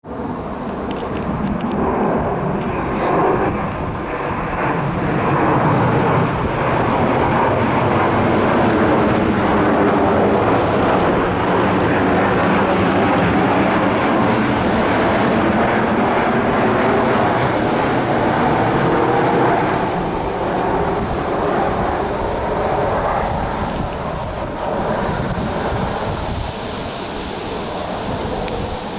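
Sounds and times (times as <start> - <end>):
jet engine noise: 0.0 - 28.9.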